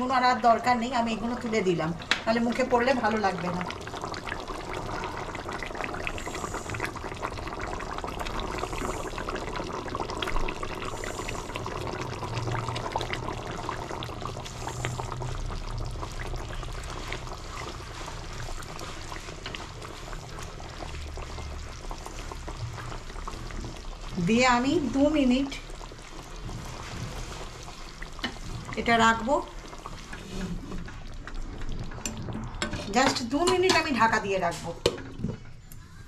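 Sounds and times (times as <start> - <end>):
gravy bubbling and popping: 0.0 - 35.6.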